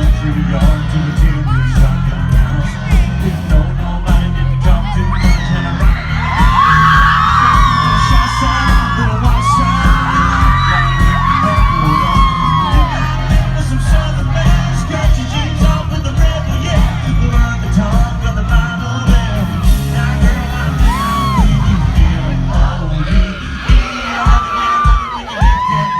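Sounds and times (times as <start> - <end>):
crowd yelling and whooping: 0.0 - 25.9
live concert music with heavy bass: 0.0 - 25.9.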